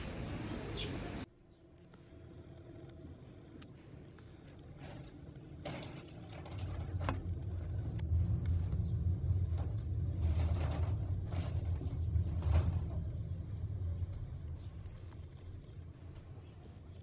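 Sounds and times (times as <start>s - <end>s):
low rumble: 2.1s - 17.0s.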